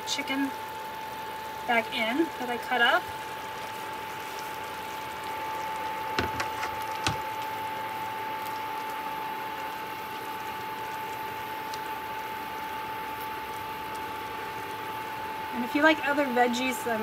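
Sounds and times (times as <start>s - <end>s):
food simmering bubbling hiss: 0.0s - 17.0s.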